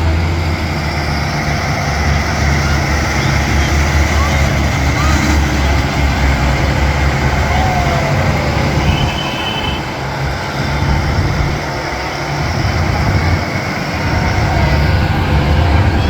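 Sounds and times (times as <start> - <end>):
tractor engines running: 0.0 - 16.0.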